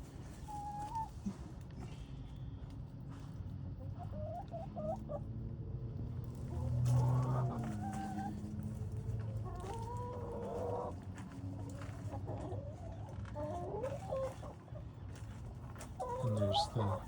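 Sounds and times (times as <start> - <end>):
chickens clucking and calling: 0.2 - 1.6, 3.7 - 5.4, 6.4 - 17.0.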